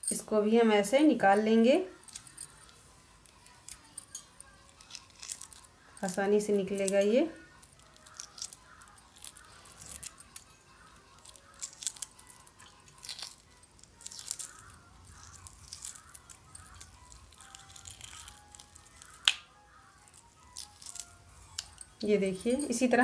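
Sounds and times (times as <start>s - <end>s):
eggshell crackling: 2.1s - 22.8s.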